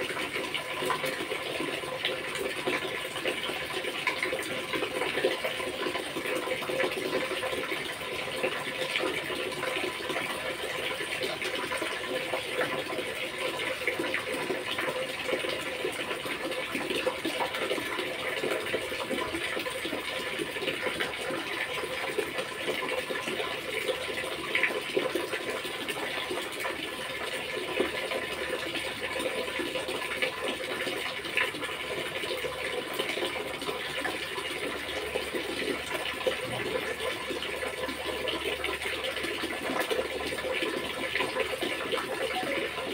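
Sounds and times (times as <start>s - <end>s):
water running: 0.0s - 42.9s.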